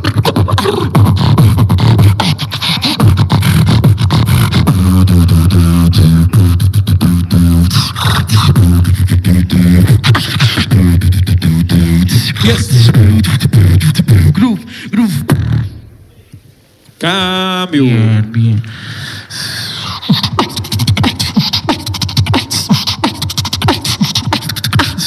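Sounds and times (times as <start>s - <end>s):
wavering pitched vocal tone: 0.0s - 16.2s, 17.4s - 25.0s
beatboxing into a microphone: 0.0s - 25.0s.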